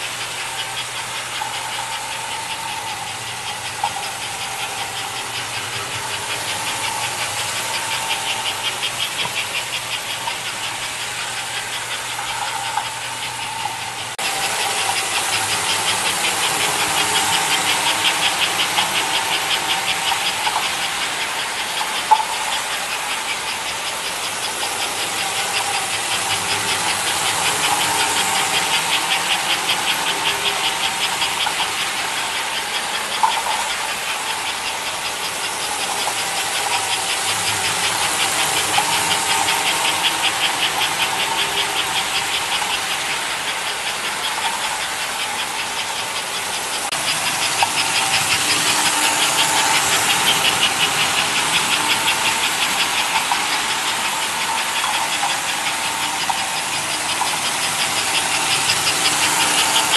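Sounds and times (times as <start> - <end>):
toy train motor whine: 0.0 - 59.9
train wheels clicking on rails: 0.0 - 59.9.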